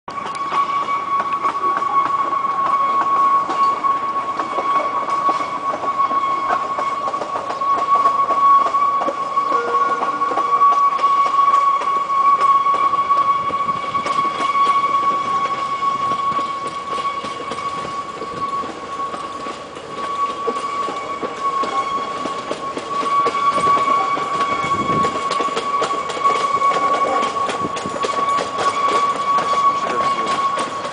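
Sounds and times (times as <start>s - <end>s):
steady high-pitched tone: 0.1s - 30.9s
steam locomotive approaching: 0.1s - 30.9s
train wheels clicking: 0.1s - 30.9s.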